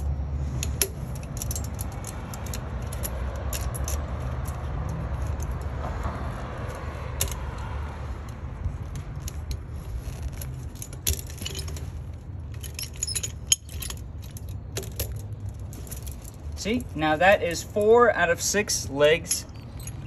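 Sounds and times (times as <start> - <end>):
chain links clinking and rattling: 0.0 - 20.0.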